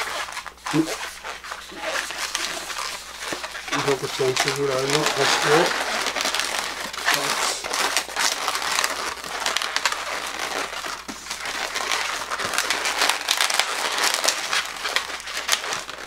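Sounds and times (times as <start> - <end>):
balloon crackling squeaks: 0.0 - 16.0.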